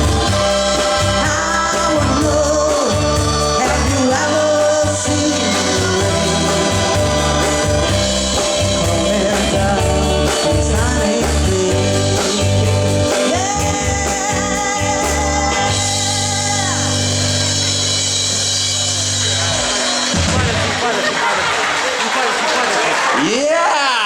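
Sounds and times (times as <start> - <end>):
rock band playing: 0.0 - 23.2.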